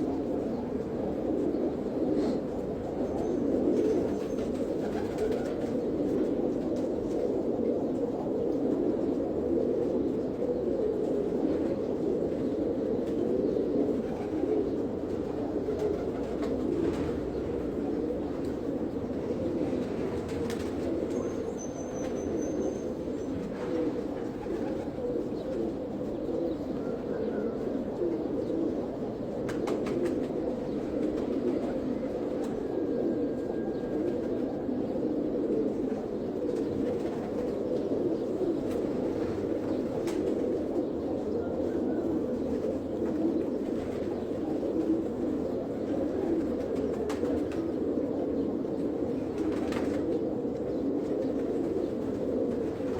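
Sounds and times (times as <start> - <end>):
pigeons cooing: 0.0 - 52.9.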